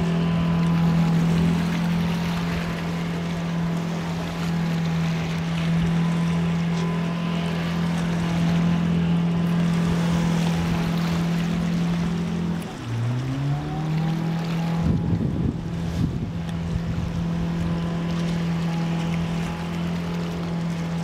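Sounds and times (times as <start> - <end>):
boat engine droning: 0.0 - 21.0
wind and water hiss: 0.0 - 21.0.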